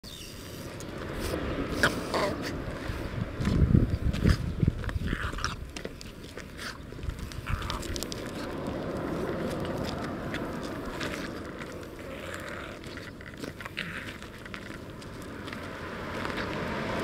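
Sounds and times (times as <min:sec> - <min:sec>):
footsteps on gravel: 0:00.4 - 0:17.0.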